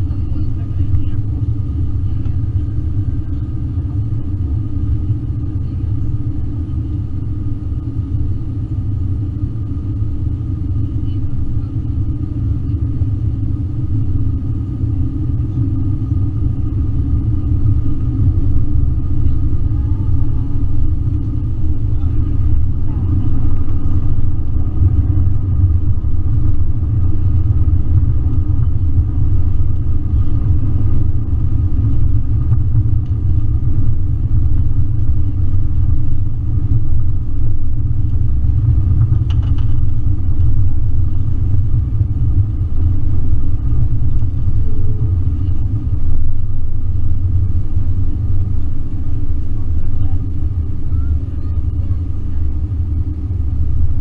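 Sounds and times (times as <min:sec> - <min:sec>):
jet engines and wheels rumbling: 0:00.0 - 0:54.0.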